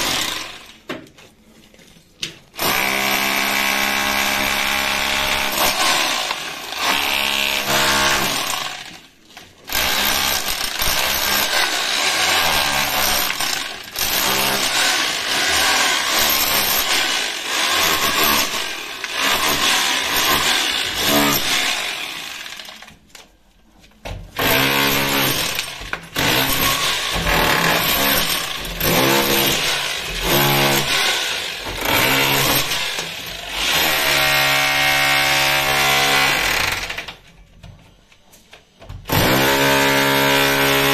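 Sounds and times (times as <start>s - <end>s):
rotary hammer chiselling concrete: 2.6s - 9.0s, 9.7s - 22.9s, 24.4s - 37.2s, 39.1s - 40.9s.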